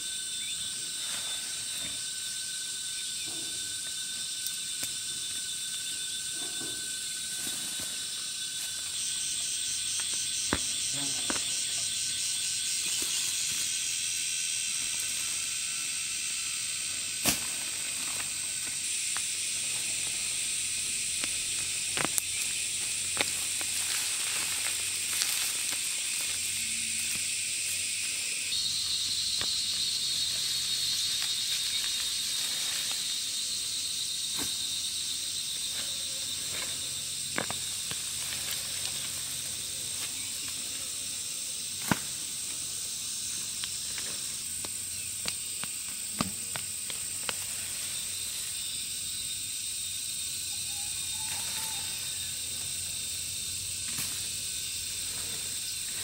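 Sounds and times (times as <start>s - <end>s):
insects shrilling: 0.0s - 56.0s.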